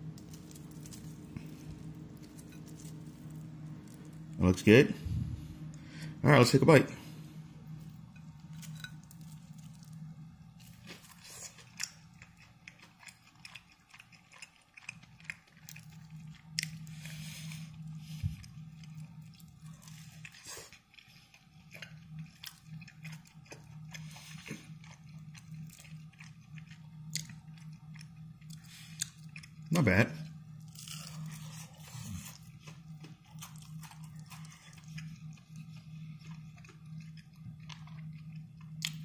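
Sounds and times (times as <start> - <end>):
man chewing crunchy batter: 0.0 - 4.8, 7.7 - 39.0
faint low hum: 0.0 - 39.0.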